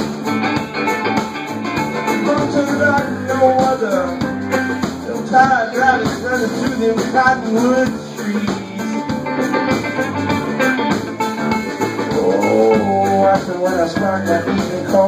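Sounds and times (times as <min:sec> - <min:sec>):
amplified harmonica: 0:00.0 - 0:14.5
drum kit: 0:00.0 - 0:15.0
electric guitar: 0:00.0 - 0:15.0
strummed banjo: 0:00.0 - 0:15.0.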